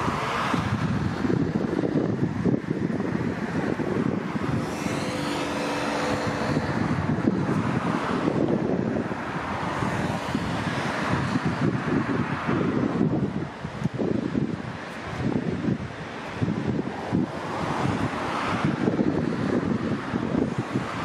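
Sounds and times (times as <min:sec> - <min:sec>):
cars passing on highway: 0:00.0 - 0:21.0
wind buffeting microphone: 0:00.0 - 0:21.0.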